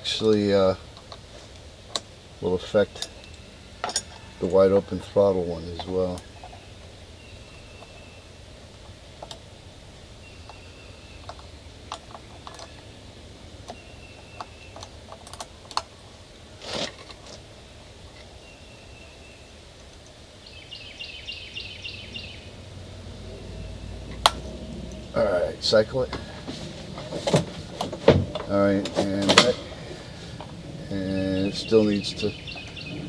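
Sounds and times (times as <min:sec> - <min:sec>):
soft rush of noise: 0:00.0 - 0:33.0.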